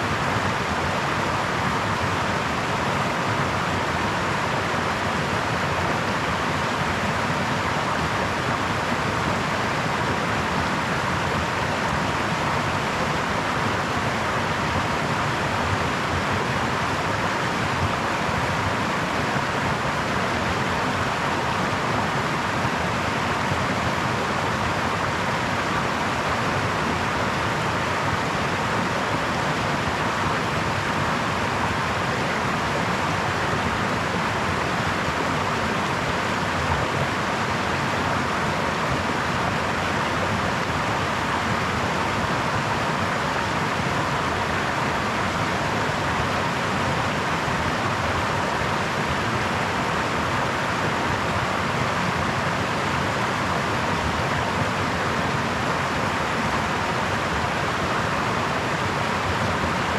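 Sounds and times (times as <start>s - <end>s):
brook babbling over stones: 0.0s - 59.9s.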